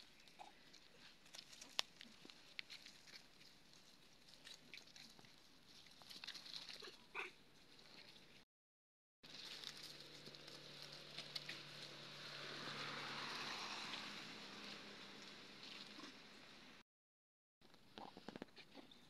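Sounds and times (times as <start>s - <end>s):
rustling dry leaves and twigs: 0.0s - 8.4s, 9.2s - 16.8s.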